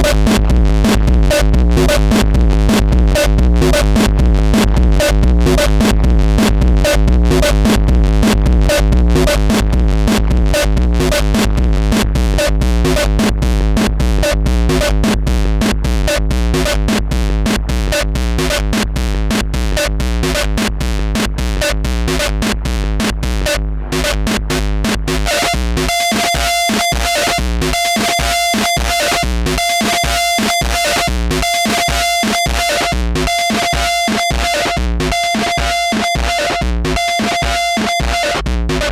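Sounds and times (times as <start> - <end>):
distorted drum machine beat: 0.0 - 38.9
heavy low bass: 0.0 - 38.9.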